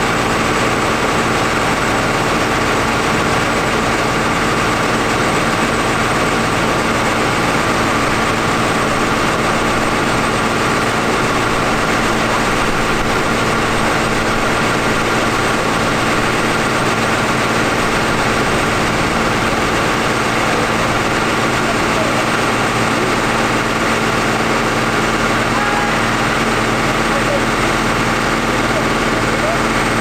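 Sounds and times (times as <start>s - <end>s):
diesel tractor engine running steadily: 0.0s - 30.0s.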